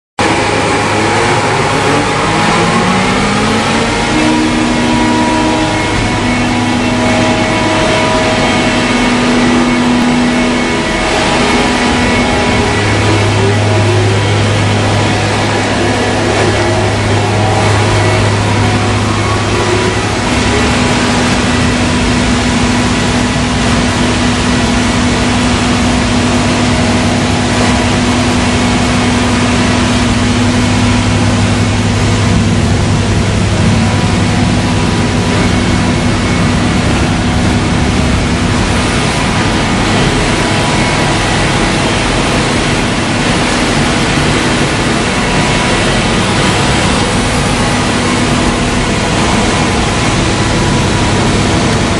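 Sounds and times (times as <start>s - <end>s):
belt sanding machine running: 0.2s - 51.9s.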